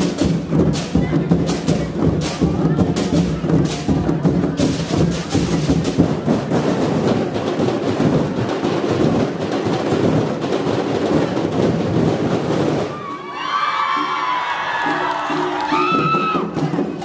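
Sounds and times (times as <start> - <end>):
drum and percussion ensemble: 0.0 - 17.0.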